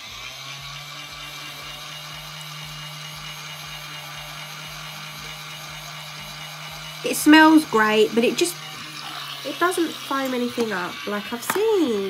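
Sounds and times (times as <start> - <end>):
toy washing machine motor humming: 0.0 - 12.0.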